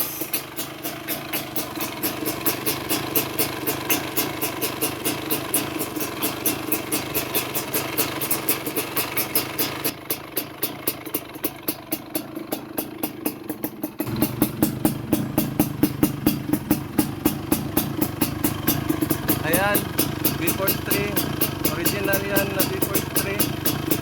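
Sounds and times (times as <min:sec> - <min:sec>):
two-stroke engine idling: 0:00.0 - 0:24.0.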